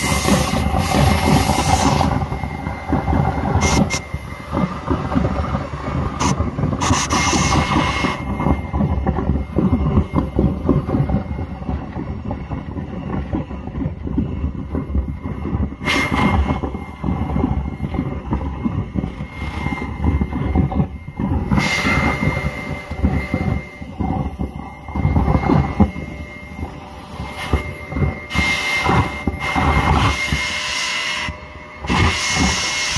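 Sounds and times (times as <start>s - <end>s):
water beads rattling and slurping: 0.0s - 30.8s
handheld vacuum motor whine: 0.0s - 32.9s.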